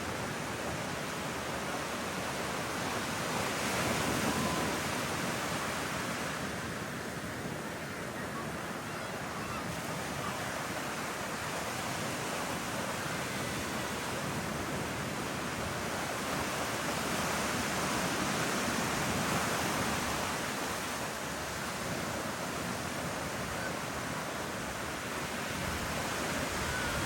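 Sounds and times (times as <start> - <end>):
ocean surf washing on beach: 0.0 - 27.0.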